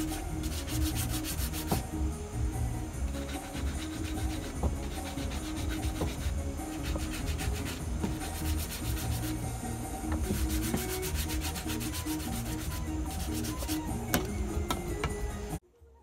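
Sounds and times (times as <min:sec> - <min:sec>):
scraping strokes on wooden handle: 0:00.0 - 0:02.0, 0:03.0 - 0:15.3.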